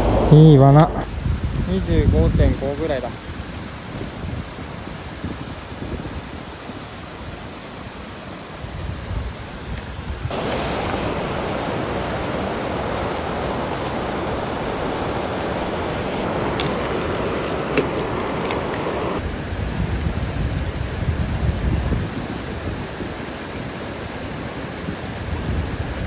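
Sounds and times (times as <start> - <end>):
wind rumbling on microphone: 0.0 - 26.0
mountain stream rushing: 1.1 - 26.0.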